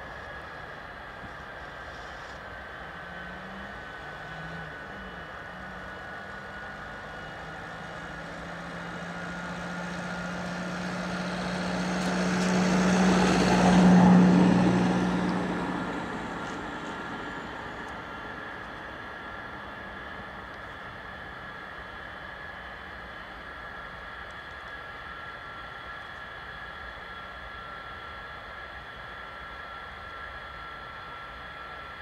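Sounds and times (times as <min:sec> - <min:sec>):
jet engines humming with whine: 0:00.0 - 0:32.0.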